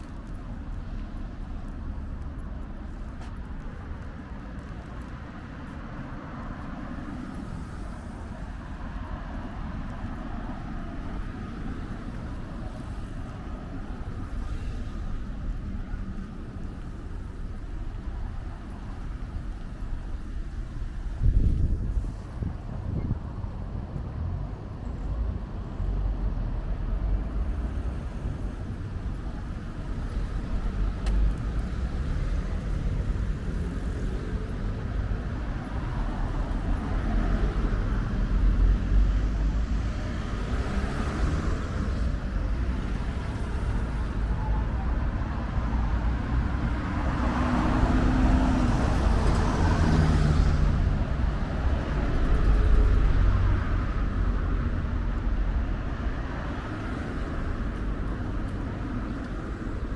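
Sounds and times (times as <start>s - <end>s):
cars passing: 0.0s - 59.9s
road traffic rumble: 0.0s - 59.9s.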